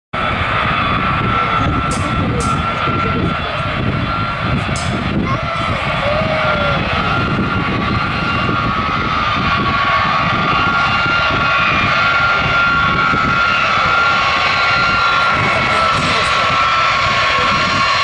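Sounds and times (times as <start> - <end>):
jet engines rumbling and whining: 0.2 - 18.0.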